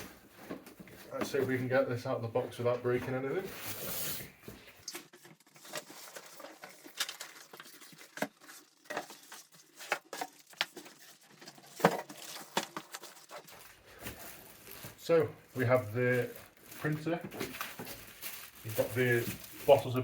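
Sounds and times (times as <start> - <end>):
cardboard and plastic crinkling: 0.0 - 20.0.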